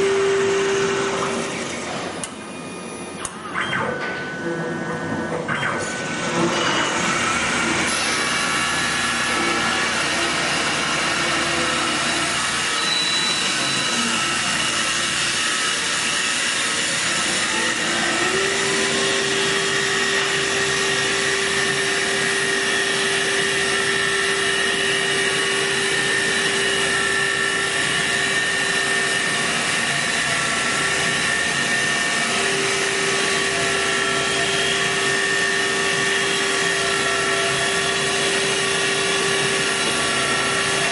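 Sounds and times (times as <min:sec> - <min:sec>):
wood lathe cutting: 0:06.4 - 0:40.9.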